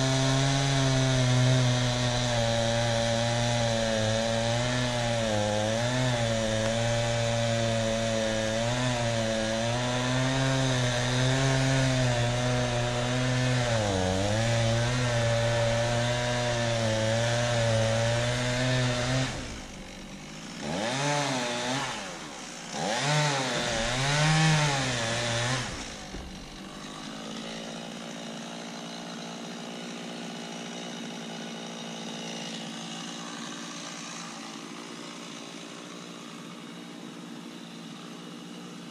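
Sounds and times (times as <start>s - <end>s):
chainsaw cutting log: 0.0s - 38.9s
chainsaw idling: 0.0s - 38.9s
chainsaw revving: 0.0s - 38.9s.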